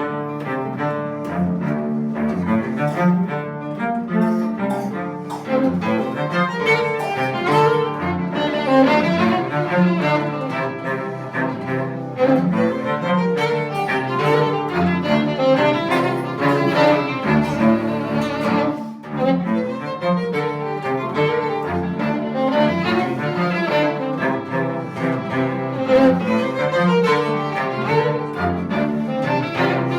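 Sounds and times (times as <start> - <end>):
bowed string music: 0.0 - 29.9.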